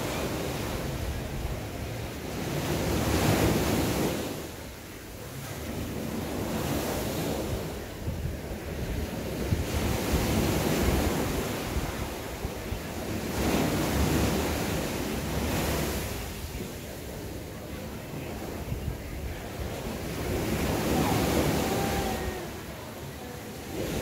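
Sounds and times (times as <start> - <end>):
waves washing up a beach: 0.0 - 24.0
wind rumbling on microphone: 0.0 - 24.0.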